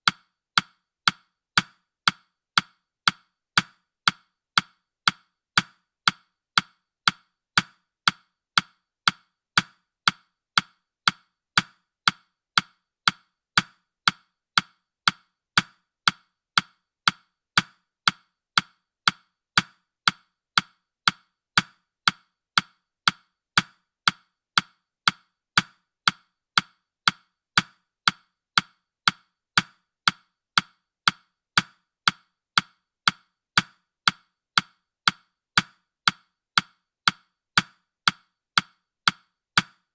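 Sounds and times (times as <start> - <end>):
woody clock ticks: 0.0 - 39.9.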